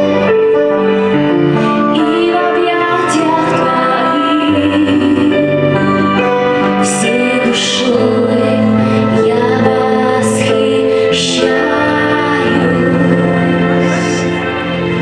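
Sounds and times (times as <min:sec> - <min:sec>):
instrumental accompaniment: 0:00.0 - 0:15.0
woman singing: 0:01.6 - 0:14.6.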